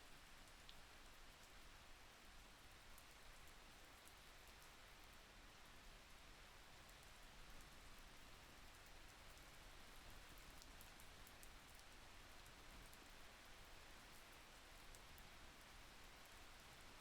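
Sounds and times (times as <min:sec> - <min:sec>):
faint steady rain: 0:00.0 - 0:17.0.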